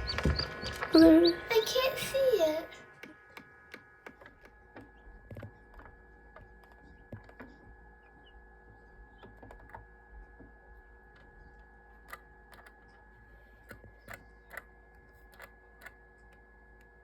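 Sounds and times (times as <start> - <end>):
incubator humming: 0.0 - 17.0
faint clicks and taps: 3.0 - 17.0.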